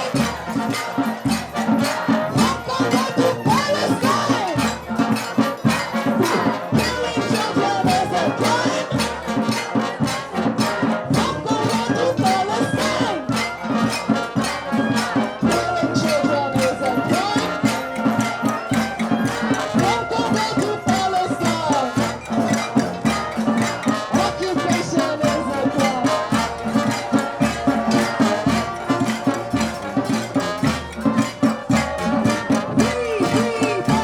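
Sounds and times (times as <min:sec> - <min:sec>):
music with fast percussion beat: 0:00.0 - 0:34.0.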